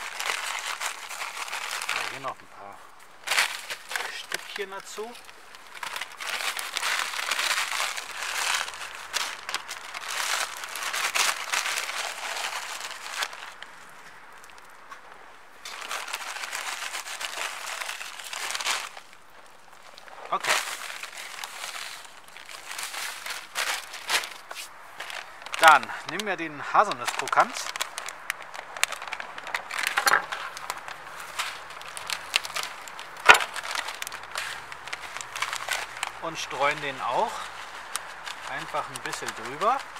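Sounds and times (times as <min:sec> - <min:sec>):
plastic bag crinkling: 0:00.0 - 0:14.8, 0:15.6 - 0:39.9
plastic packaging crackling: 0:00.0 - 0:14.8, 0:15.6 - 0:39.9.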